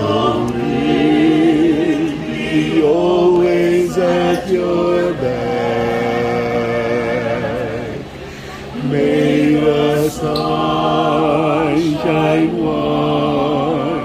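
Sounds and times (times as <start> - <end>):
group singing unaccompanied: 0.0 - 14.0.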